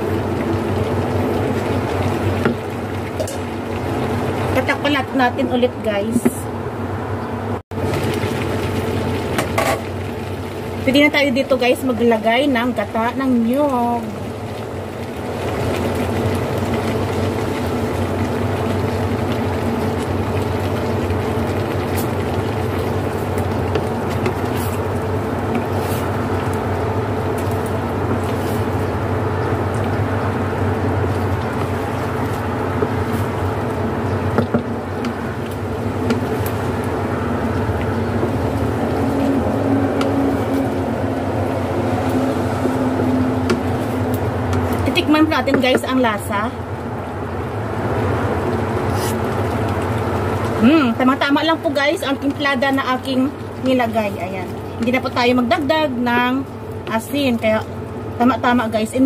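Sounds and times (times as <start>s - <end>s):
curry cooking in a wok: 0.0s - 58.9s
steady hum: 0.0s - 59.0s.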